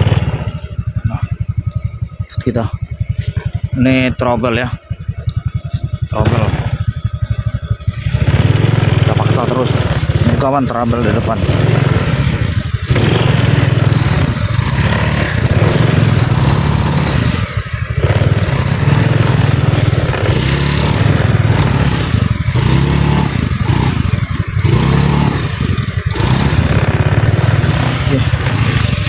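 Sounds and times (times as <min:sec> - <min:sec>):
motorcycle engine running: 0:00.0 - 0:29.0
second motorcycle engine: 0:00.0 - 0:29.0.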